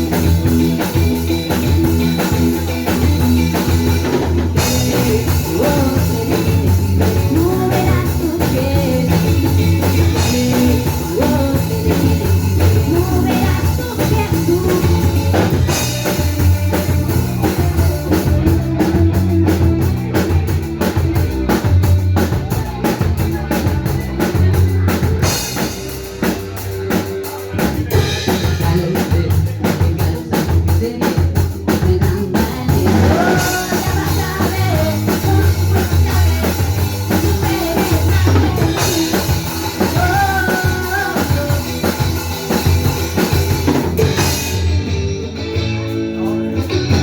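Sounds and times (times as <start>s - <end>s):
rock band playing live: 0.0s - 47.0s.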